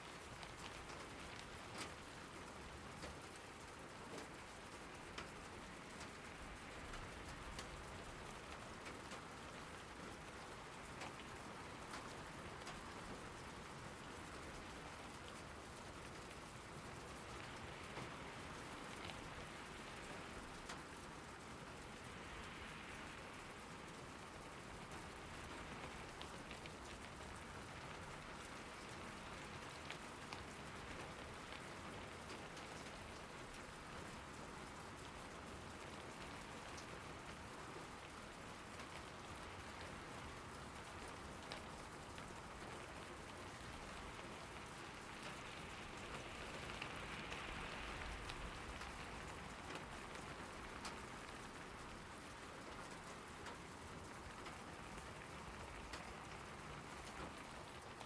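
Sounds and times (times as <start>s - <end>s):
raindrops ticking close by: 0.0s - 58.0s
steady rain falling: 0.0s - 58.0s.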